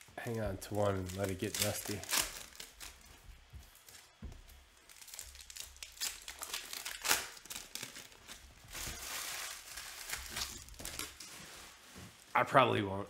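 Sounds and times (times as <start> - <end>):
foil wrapper crinkling and tearing: 0.2 - 11.8.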